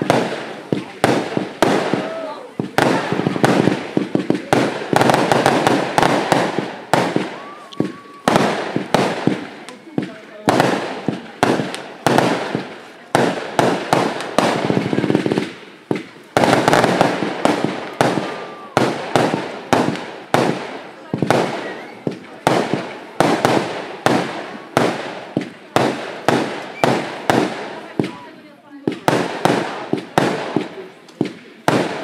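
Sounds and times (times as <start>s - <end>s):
fireworks banging: 0.0s - 32.0s.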